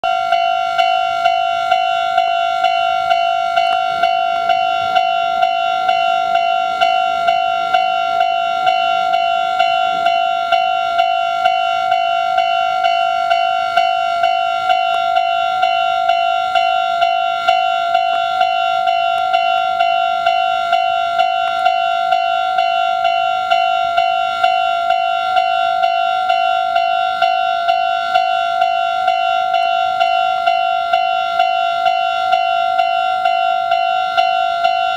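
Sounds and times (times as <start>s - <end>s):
level-crossing warning bell clanging: 0.0s - 34.9s.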